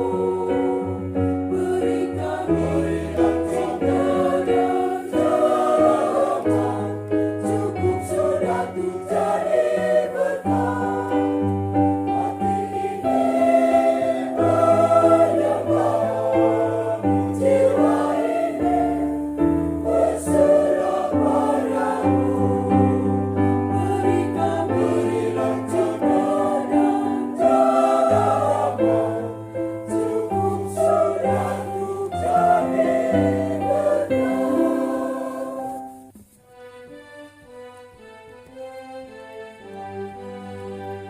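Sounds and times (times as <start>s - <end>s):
choir singing a hymn: 0.0s - 36.1s.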